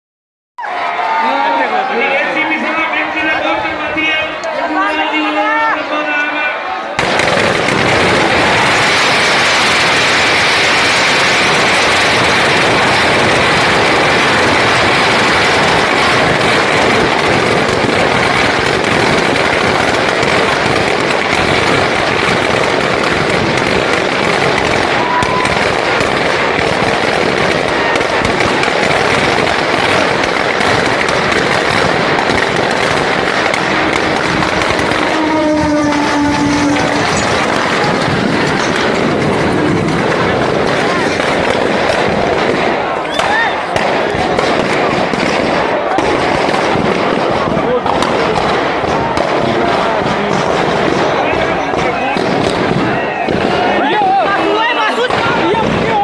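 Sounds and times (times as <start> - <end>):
firecrackers crackling: 6.9 - 56.0.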